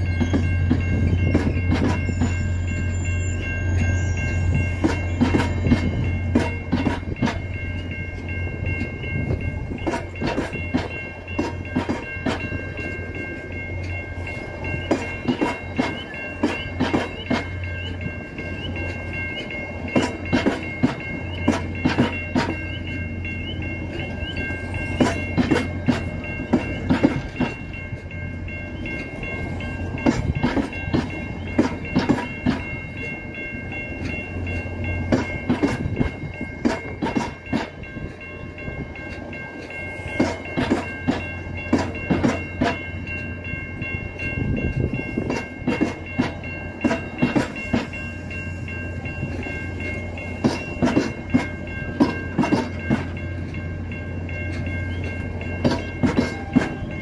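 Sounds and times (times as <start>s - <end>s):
high-pitched ringing: 0.0s - 57.0s
train rumble: 0.0s - 57.0s
train wheels clicking over rail joints: 0.0s - 57.0s.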